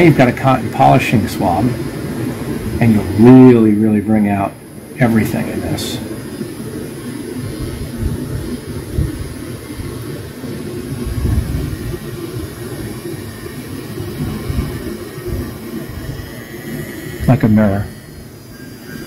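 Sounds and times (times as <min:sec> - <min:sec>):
rotary tool running: 0:00.6 - 0:19.0.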